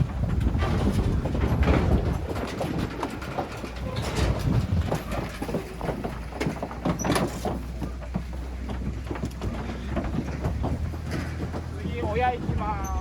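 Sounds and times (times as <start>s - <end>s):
hoof clatter on truck floor: 0.0s - 13.0s
truck engine humming: 0.0s - 13.0s.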